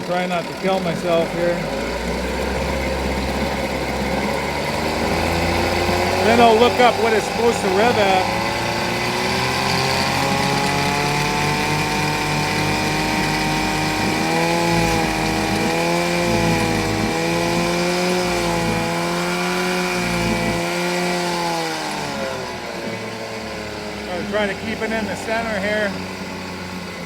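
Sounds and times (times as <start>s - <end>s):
outboard motor revving: 0.0s - 27.0s.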